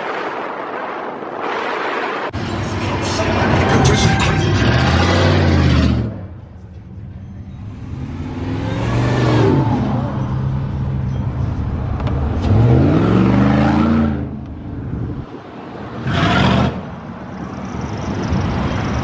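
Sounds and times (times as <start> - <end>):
truck engines revving: 1.4 - 19.0.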